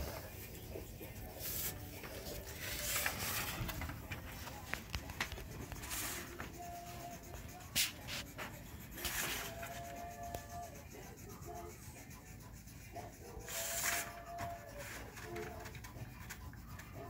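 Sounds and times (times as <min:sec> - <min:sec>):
crayon rubbing on paper: 0:00.0 - 0:17.0.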